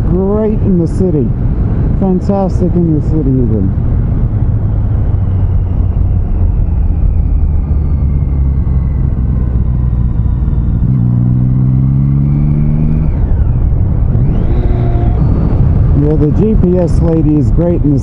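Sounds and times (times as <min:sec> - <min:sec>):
wind and road noise: 0:00.0 - 0:18.0
motorcycle engine accelerating: 0:01.3 - 0:18.0.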